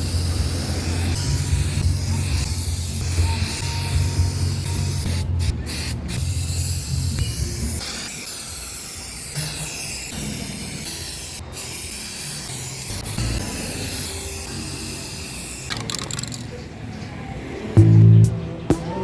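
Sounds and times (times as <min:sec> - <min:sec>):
spray paint can hissing: 0:00.0 - 0:16.5.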